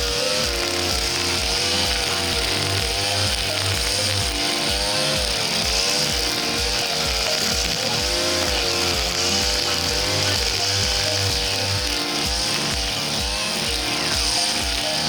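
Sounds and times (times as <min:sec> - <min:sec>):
brush cutter engine at high revs: 0:00.0 - 0:15.0
music with steady beat: 0:00.0 - 0:15.0.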